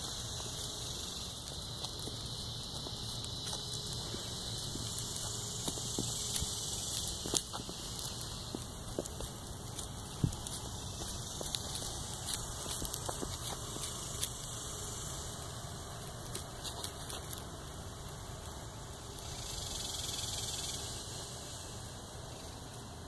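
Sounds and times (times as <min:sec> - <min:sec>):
faint clicks and crackles: 0:00.0 - 0:23.0
outdoor background hiss: 0:00.0 - 0:23.0.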